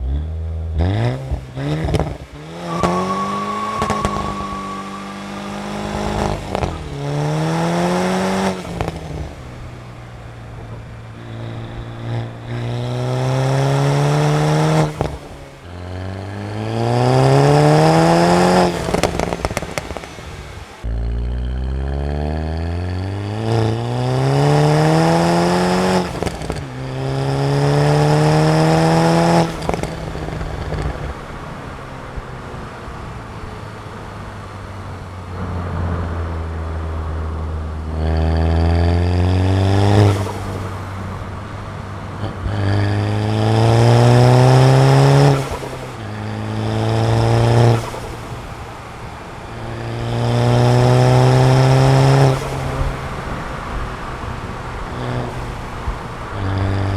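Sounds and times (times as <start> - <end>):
car engine accelerating hard: 0.0 - 56.9.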